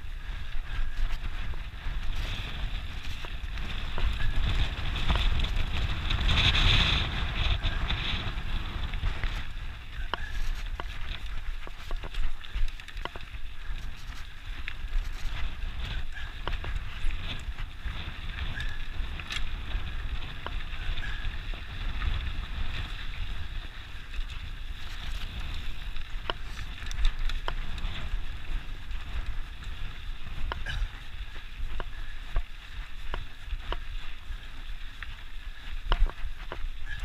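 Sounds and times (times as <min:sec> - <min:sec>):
bike clicks and rattles: 0:00.0 - 0:37.0
wind buffeting microphone: 0:00.0 - 0:37.0.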